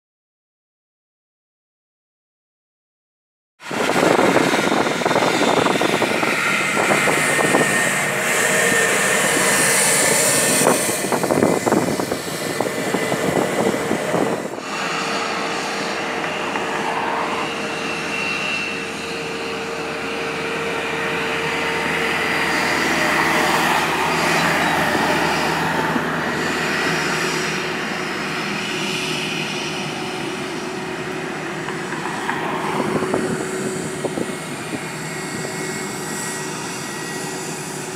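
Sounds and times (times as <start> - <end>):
jet engines whining at low power: 3.6 - 37.9.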